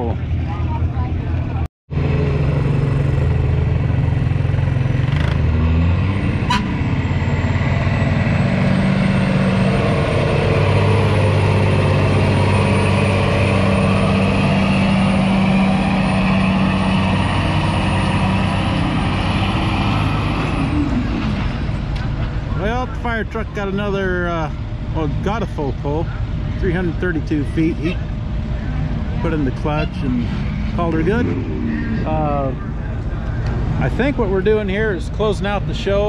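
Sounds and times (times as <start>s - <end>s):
diesel engine under heavy load: 0.0s - 36.0s.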